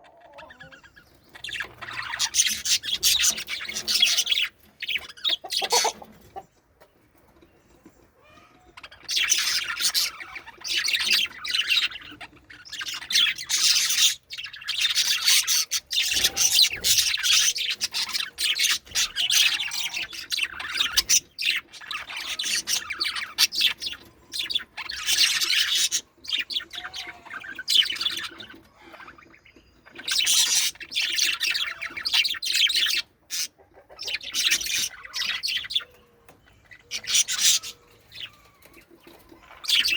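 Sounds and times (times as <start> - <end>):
budgerigars chirping: 0.0 - 6.4, 8.2 - 39.9.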